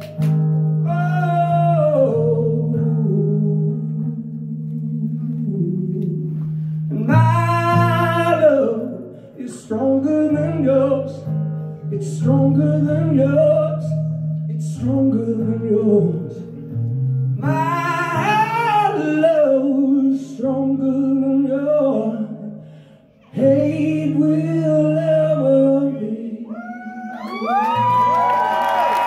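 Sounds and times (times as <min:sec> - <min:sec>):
acoustic guitar chords: 0:00.0 - 0:26.5
man singing: 0:00.8 - 0:16.7, 0:17.4 - 0:27.6.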